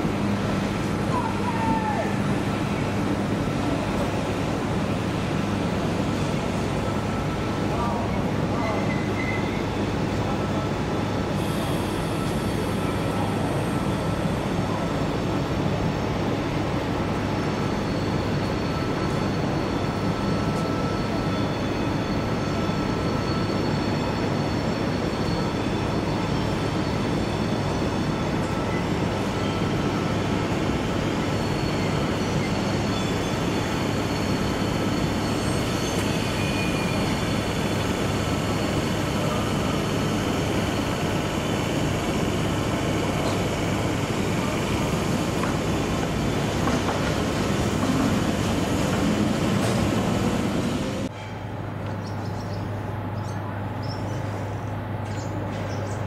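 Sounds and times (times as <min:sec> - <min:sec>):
train running: 0:00.0 - 0:56.0.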